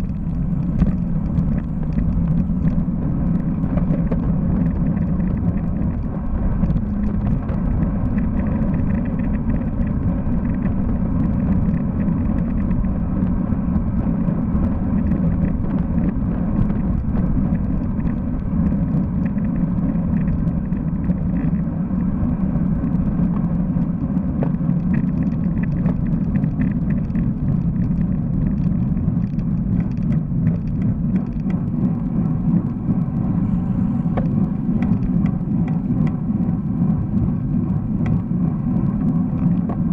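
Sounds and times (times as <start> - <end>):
faint ticks: 0.0 - 13.8, 14.5 - 21.6, 22.6 - 39.9
road rumble: 0.0 - 39.9
wind on microphone: 0.0 - 39.9.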